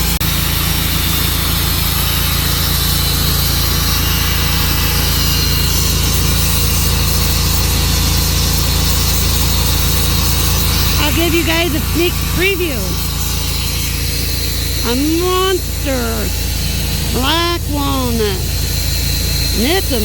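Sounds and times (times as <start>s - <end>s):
sawmill blade sawing log: 0.2s - 20.0s.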